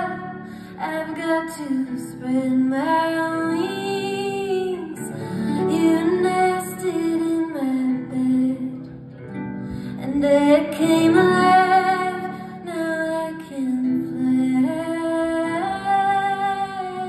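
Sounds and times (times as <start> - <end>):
woman singing: 0.0 - 8.9, 9.7 - 17.0
plucked strings: 0.0 - 17.0.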